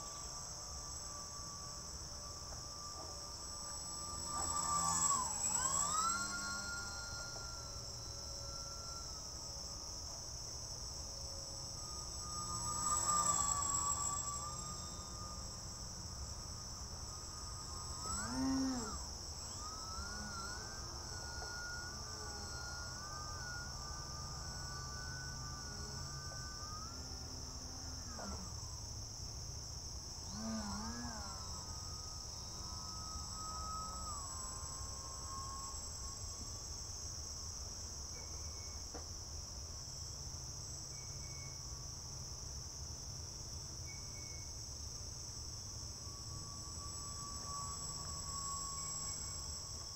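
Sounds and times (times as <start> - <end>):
gliding pitched whine: 0.0 - 39.0, 45.5 - 49.9
crickets chirping: 0.0 - 49.9.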